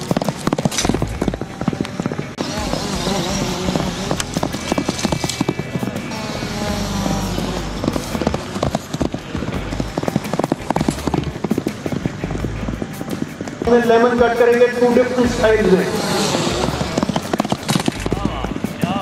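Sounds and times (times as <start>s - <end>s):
horse hoofbeats on dirt: 0.0s - 19.0s
music: 0.0s - 19.0s
voices: 1.1s - 19.0s.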